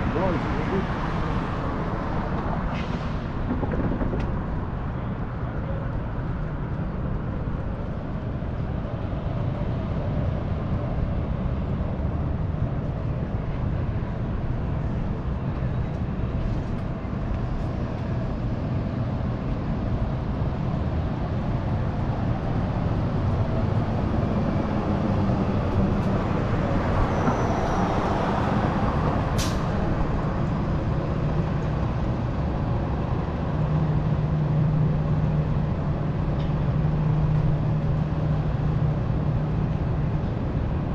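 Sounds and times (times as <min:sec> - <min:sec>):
low rumble of traffic: 0:00.0 - 0:40.9.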